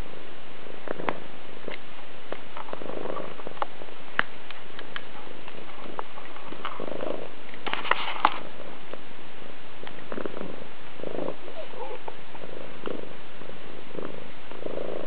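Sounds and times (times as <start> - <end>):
cat purring: 0.6 - 15.0.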